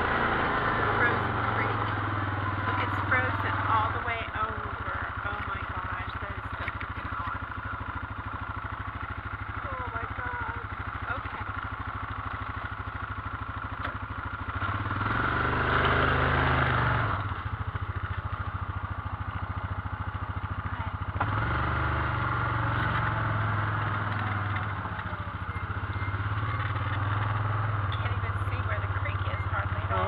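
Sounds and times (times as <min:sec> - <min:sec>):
single-cylinder engine running: 0:00.0 - 0:30.0.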